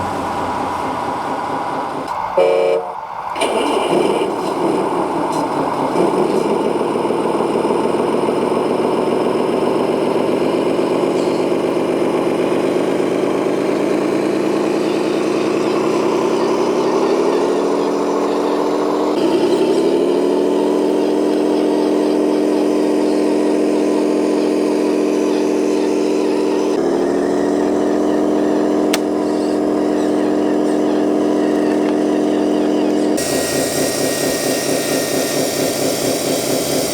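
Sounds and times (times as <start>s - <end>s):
model motor droning: 3.4s - 36.9s.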